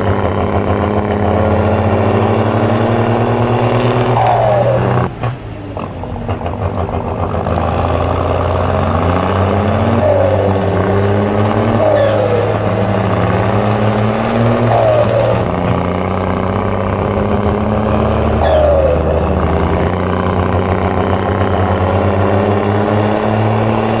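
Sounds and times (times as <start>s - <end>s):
short falling whines: 0.0s - 24.0s
toy vehicle motor hum: 0.0s - 24.0s.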